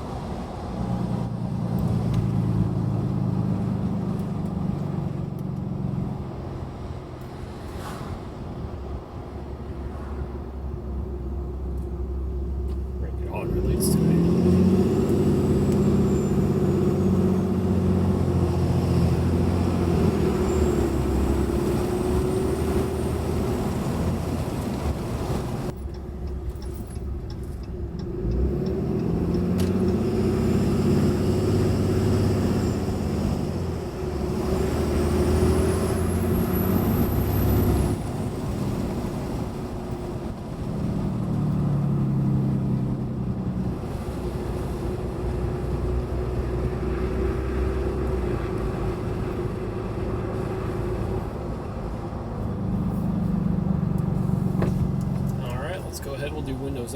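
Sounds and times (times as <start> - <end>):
diesel engine pulling under throttle: 0.0 - 56.9.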